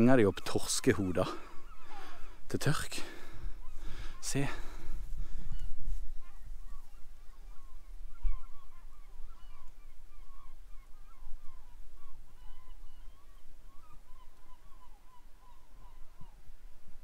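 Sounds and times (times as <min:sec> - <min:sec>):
flock of birds calling: 0:00.0 - 0:17.0.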